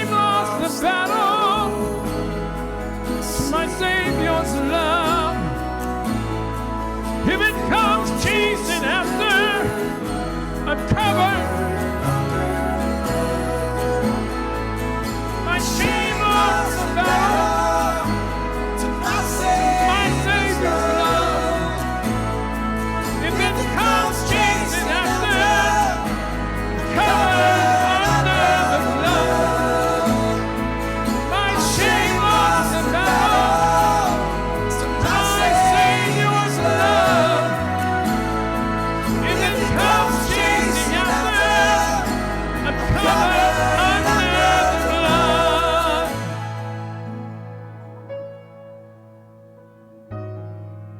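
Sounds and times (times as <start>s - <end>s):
person singing: 0.0s - 47.7s
band with bass and keys: 0.0s - 50.9s.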